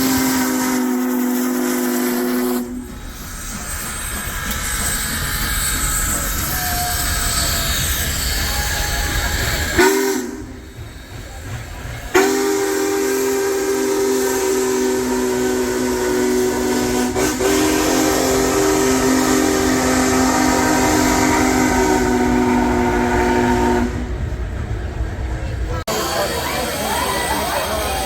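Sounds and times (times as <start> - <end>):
steam locomotive chime whistle: 0.0 - 10.8, 12.1 - 24.0
train rumble: 0.0 - 28.0.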